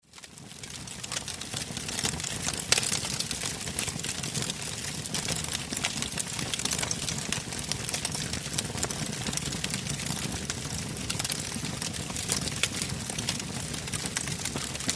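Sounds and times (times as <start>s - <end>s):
campfire crackles and pops: 0.1s - 14.9s
low rumble of flames: 0.2s - 14.9s.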